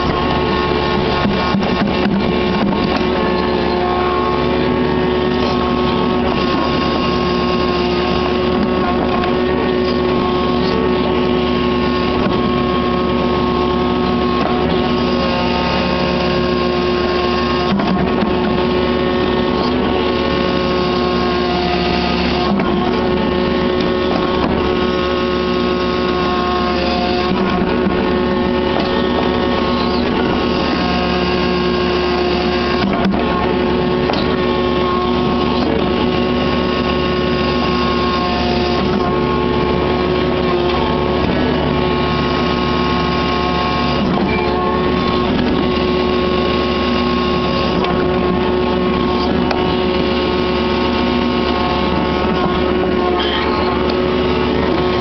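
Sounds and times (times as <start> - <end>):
diesel engine running: 0.0 - 55.0
hydraulics working: 0.0 - 55.0.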